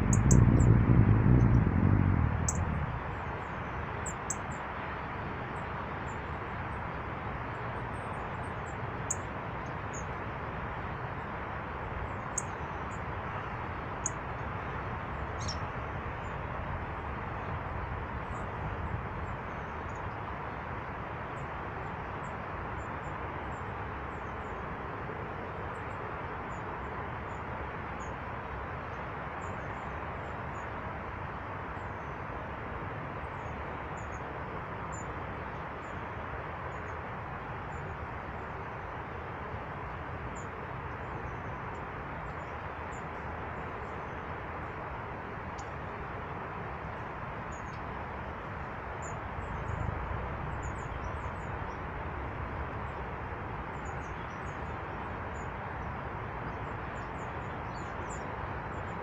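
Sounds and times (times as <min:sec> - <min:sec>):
steady rushing background noise: 0:00.0 - 0:59.0.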